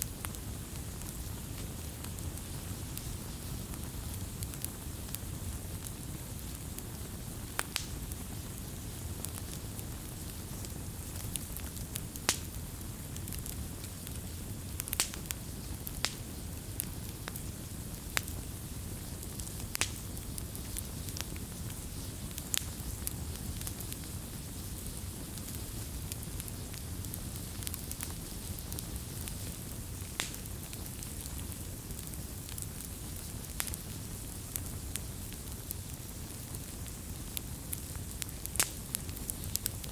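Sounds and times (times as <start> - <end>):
burning wood crackling and popping: 0.0 - 39.9
campfire flames rumbling: 0.0 - 39.9.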